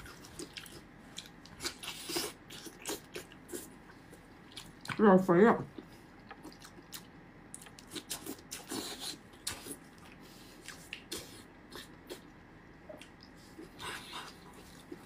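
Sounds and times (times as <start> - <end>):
person chewing wetly: 0.0 - 5.0, 5.8 - 15.0.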